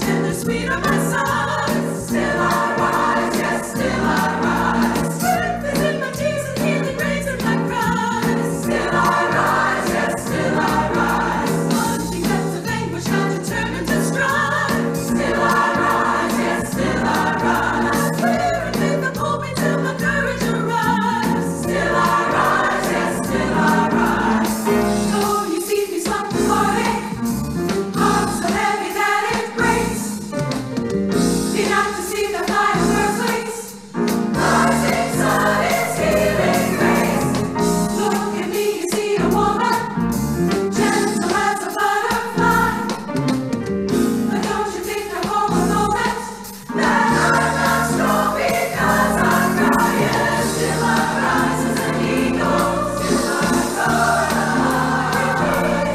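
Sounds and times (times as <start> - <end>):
women's choir singing gospel: 0.0 - 27.3, 27.9 - 30.3, 31.4 - 43.1, 44.2 - 55.9.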